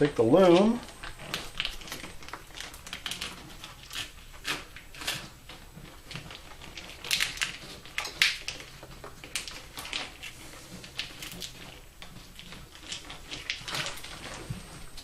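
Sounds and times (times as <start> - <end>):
plastic tubing crinkling and clicking: 0.0 - 15.0
plastic tubing snapping: 0.0 - 15.0.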